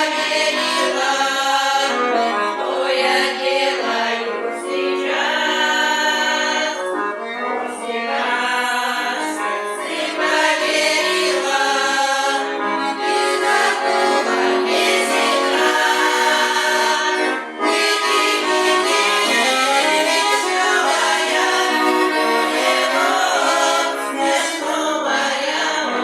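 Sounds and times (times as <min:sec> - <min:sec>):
accordion playing: 0:00.0 - 0:26.0
group of voices singing: 0:00.0 - 0:26.0.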